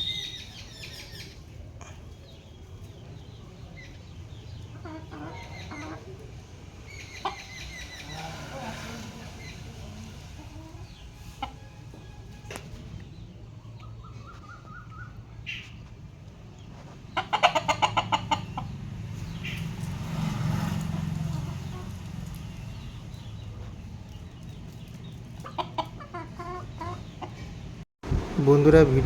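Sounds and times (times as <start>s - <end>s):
chickens clucking: 0.2s - 27.8s.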